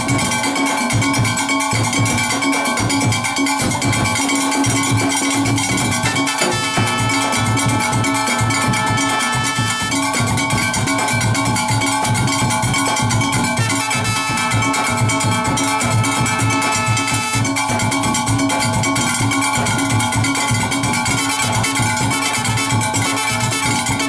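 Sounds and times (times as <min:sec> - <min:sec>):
metal irons clanging rhythm: 0:00.0 - 0:23.2
drum kit and cymbals: 0:00.0 - 0:24.0.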